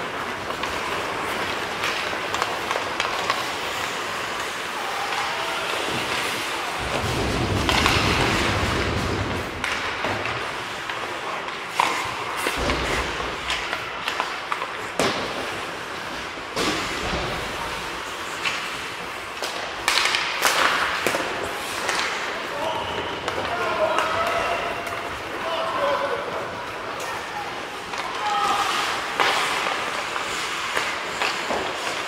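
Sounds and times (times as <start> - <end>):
skates on ice: 0.0 - 32.0
sticks and puck clacking: 0.0 - 32.0.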